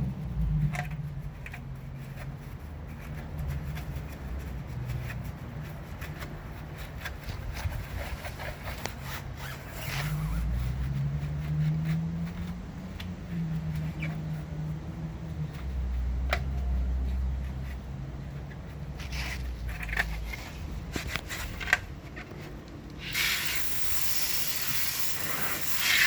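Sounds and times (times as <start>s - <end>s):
brush scrubbing a tire: 0.0s - 26.0s.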